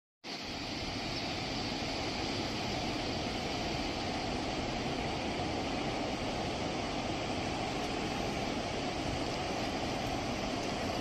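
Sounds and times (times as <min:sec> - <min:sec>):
floodwater roaring from spillway: 0:00.3 - 0:11.0.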